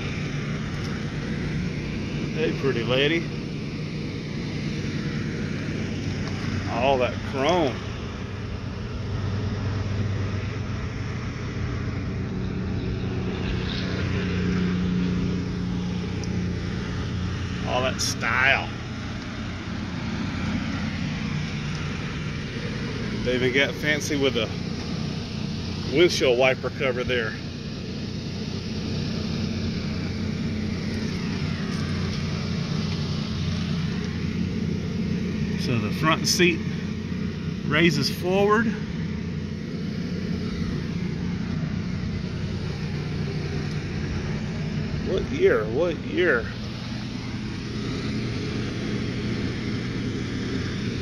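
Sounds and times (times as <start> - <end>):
higher hum: 0.0 - 51.0
motor drone: 0.0 - 51.0.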